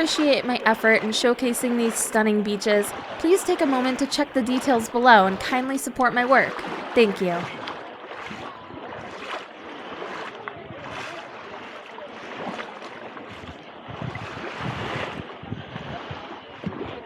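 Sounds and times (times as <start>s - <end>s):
small waves washing on beach: 0.0s - 17.0s.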